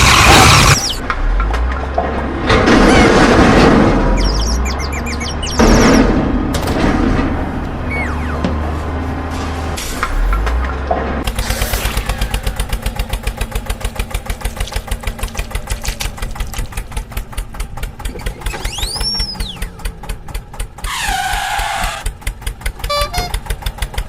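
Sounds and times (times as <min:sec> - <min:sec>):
vehicle engine chugging: 0:00.0 - 0:06.6, 0:07.5 - 0:24.0.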